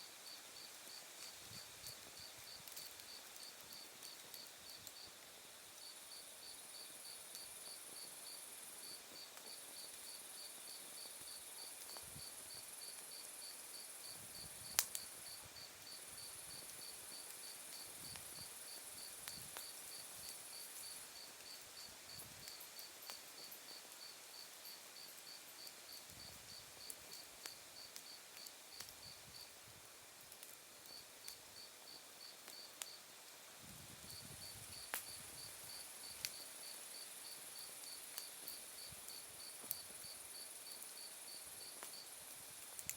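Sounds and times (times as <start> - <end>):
wood fire crackling: 0.6 - 5.4, 10.8 - 42.9.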